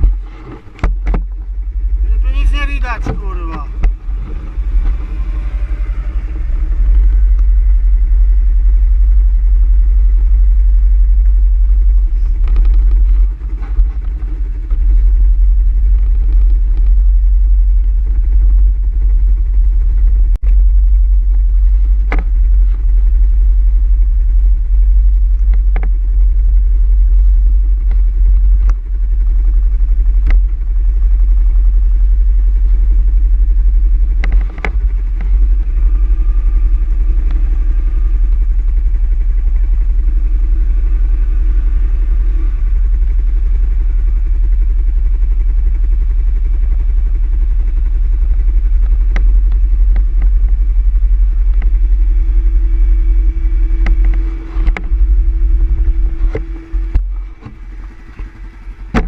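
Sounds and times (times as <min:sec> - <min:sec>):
atv engine running: 0:00.0 - 0:59.0
heavy low rumble: 0:00.0 - 0:59.0.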